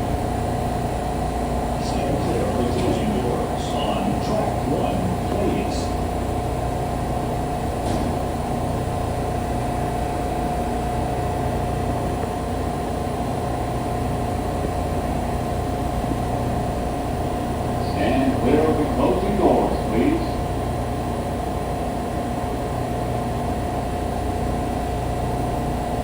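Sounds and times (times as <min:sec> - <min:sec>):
subway train electrical hum: 0:00.0 - 0:26.0.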